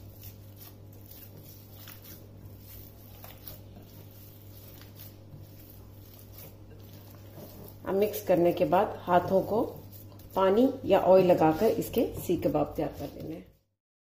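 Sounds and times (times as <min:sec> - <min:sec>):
hands squelching mince: 0:00.0 - 0:13.5
steady low hum: 0:00.0 - 0:13.6.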